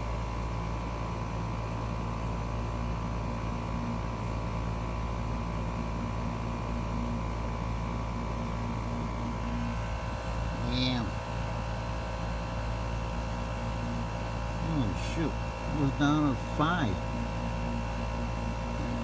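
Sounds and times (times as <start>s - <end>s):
air conditioner compressor hum: 0.0s - 19.0s.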